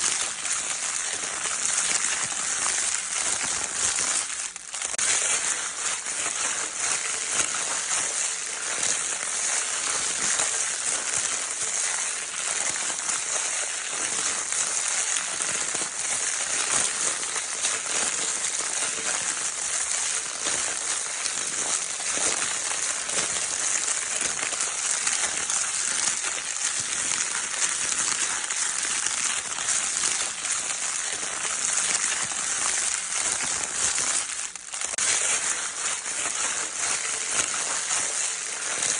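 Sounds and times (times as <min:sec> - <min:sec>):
crinkle paper crumpling: 0:00.0 - 0:38.9.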